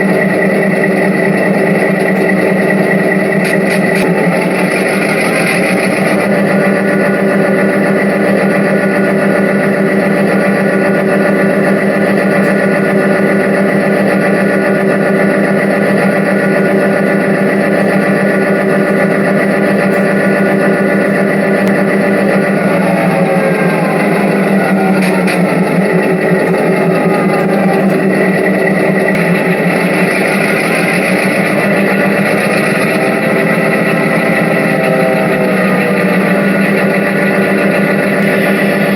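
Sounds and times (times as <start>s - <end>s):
diesel locomotive engine running: 0.0s - 38.9s.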